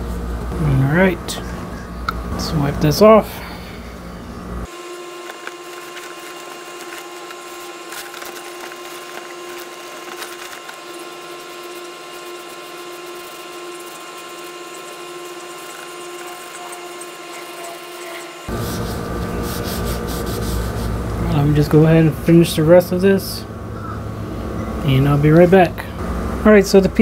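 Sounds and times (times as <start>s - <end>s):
motor humming: 0.0s - 26.5s.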